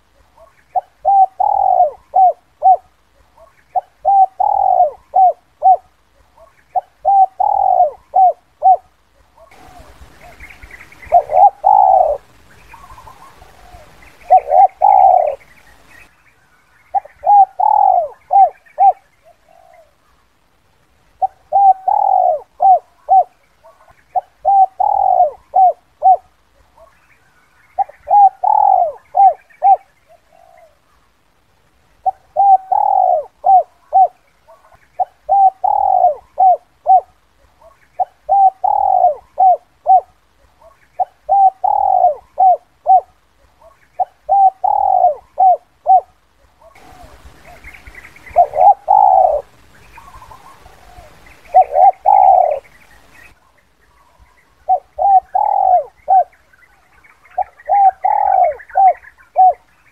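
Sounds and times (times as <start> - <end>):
dove cooing: 0.0 - 16.1, 16.8 - 20.2, 21.2 - 27.0, 27.6 - 31.0, 32.0 - 59.9.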